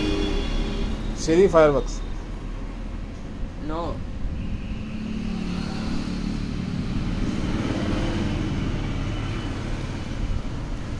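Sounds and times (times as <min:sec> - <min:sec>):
road traffic rumble: 0:00.0 - 0:10.9.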